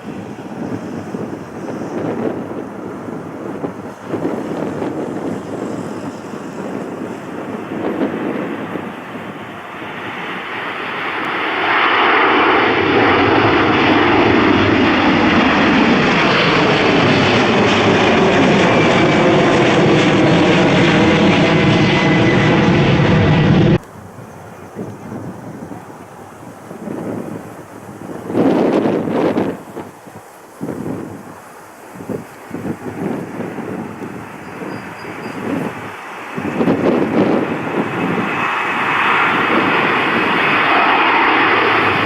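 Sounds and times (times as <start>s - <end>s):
jet engines passing: 0.0s - 42.0s.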